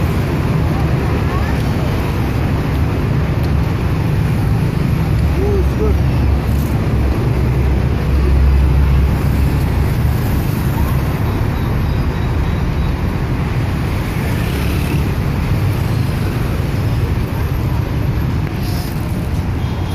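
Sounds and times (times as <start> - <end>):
road traffic passing: 0.0 - 19.9.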